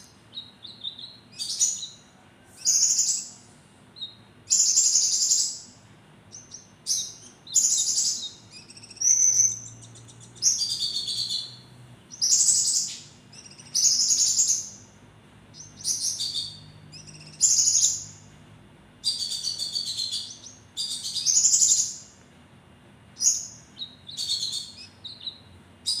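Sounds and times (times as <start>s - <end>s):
songbird chirping: 0.0s - 18.4s, 19.0s - 22.3s, 23.1s - 26.0s.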